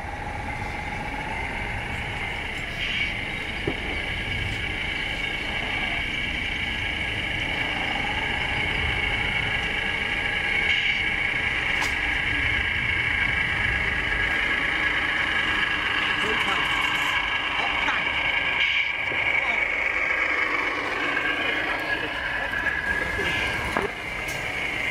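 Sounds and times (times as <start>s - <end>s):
model truck motor whine: 0.0s - 24.9s.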